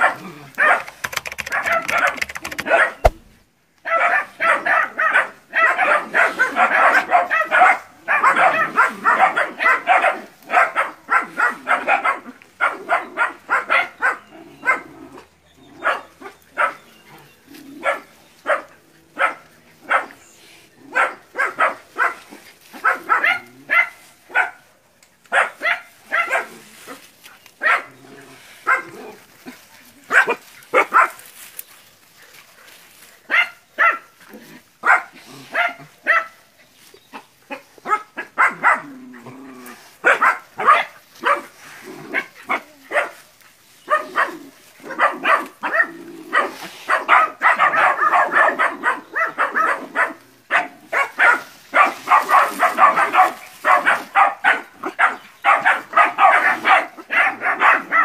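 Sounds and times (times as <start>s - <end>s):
puppies barking and yapping: 0.0s - 58.0s.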